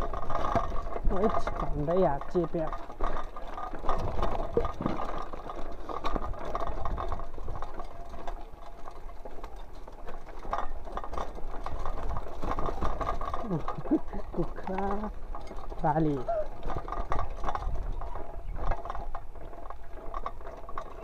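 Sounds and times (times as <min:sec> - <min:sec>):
bike rattling on stony path: 0:00.0 - 0:21.0.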